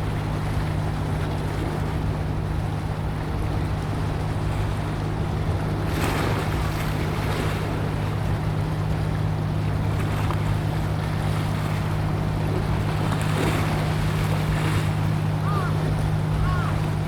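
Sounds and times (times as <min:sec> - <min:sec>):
ship engine drone: 0:00.0 - 0:17.0
water noise: 0:00.0 - 0:17.0.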